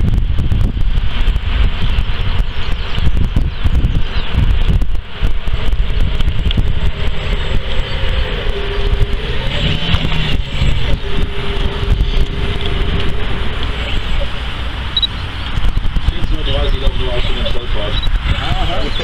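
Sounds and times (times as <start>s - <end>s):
faint steady hum: 0.0s - 19.0s
wind buffeting microphone: 0.0s - 19.0s.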